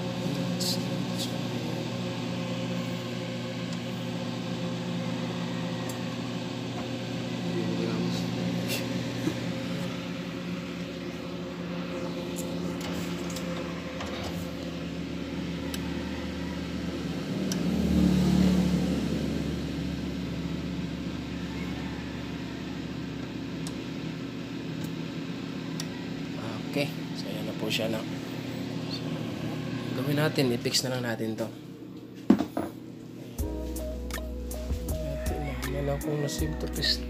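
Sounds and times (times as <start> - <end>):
incubator motor hum: 0.0 - 37.0.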